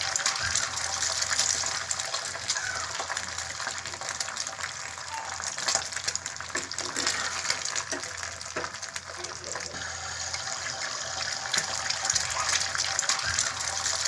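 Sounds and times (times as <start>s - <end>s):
egg sizzling in oil: 0.0s - 14.0s.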